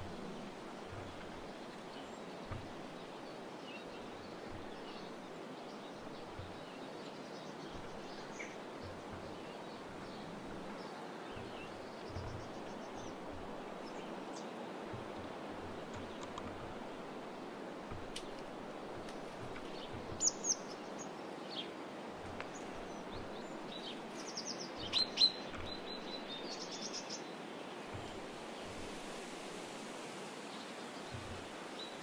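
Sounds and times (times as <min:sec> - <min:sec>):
soft low thumps: 0:00.0 - 0:06.8, 0:07.6 - 0:20.8, 0:22.2 - 0:24.1, 0:24.7 - 0:26.7, 0:27.9 - 0:29.6, 0:31.1 - 0:31.5
small birds chirping: 0:00.0 - 0:32.0
steady outdoor hiss: 0:00.0 - 0:32.0.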